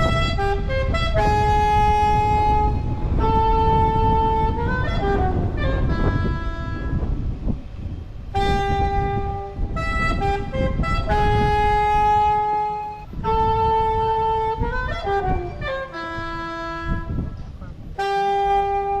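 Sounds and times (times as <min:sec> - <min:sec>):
saxophone slow melody: 0:00.0 - 0:07.1, 0:08.3 - 0:17.3, 0:18.0 - 0:19.0.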